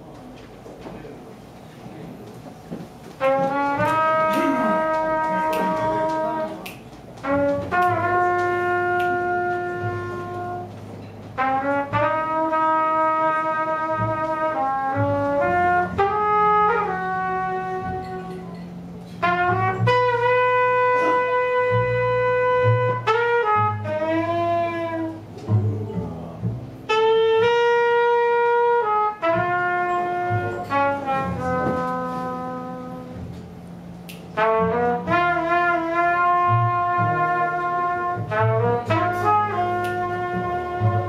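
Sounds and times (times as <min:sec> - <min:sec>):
piano: 0:00.0 - 0:41.0
trumpet melody: 0:03.2 - 0:25.7, 0:26.7 - 0:41.0
bass line: 0:03.2 - 0:41.0.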